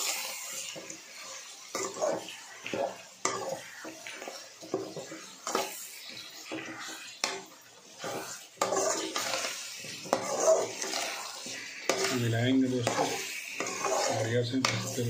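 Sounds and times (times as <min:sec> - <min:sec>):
metal spatula scraping a pot: 0:00.0 - 0:15.0.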